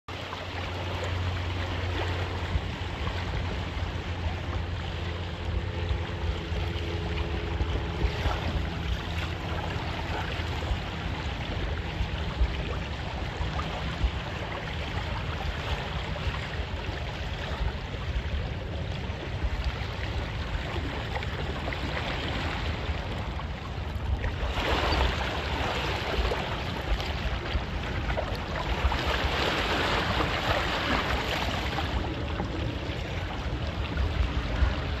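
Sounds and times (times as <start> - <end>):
water slapping boat hull: 0.1 - 35.0
wind on microphone: 0.1 - 35.0.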